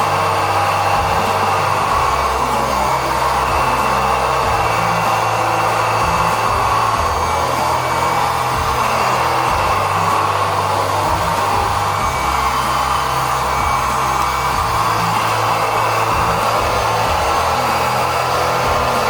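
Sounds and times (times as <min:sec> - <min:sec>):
hydraulic pump whirring: 0:00.0 - 0:19.0.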